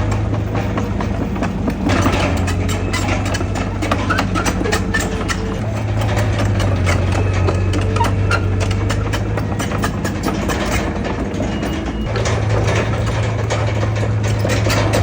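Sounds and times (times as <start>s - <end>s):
bulldozer diesel engine running: 0.0s - 15.0s
metallic clicks and clanks: 0.0s - 15.0s.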